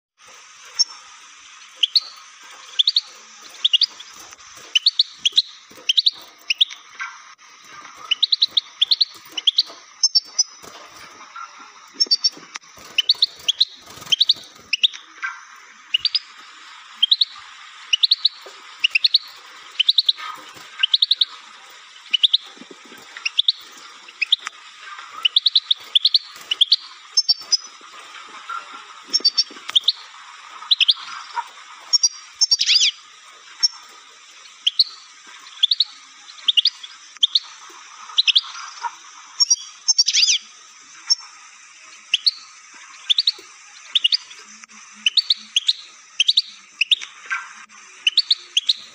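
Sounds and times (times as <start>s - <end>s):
caged birds chirping: 0.2s - 48.9s.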